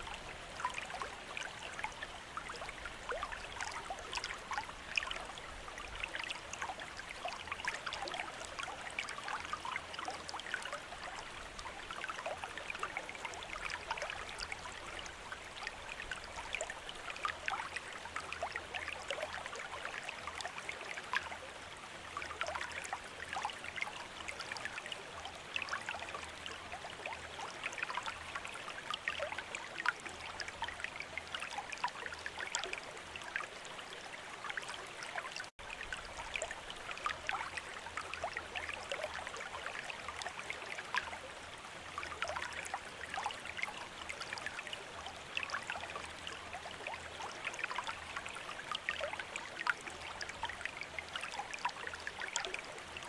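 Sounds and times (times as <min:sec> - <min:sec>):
fountain water trickling and splashing: 0:00.0 - 0:53.0.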